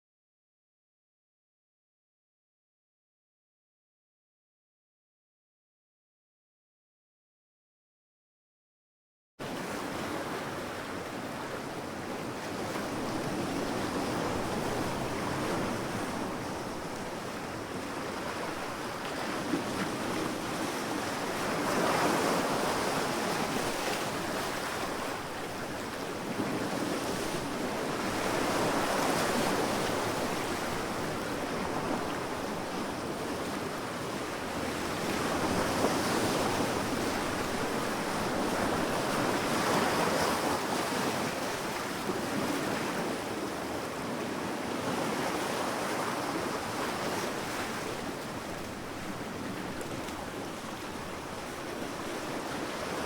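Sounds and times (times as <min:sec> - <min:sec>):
sea waves breaking on beach: 0:09.4 - 0:53.0.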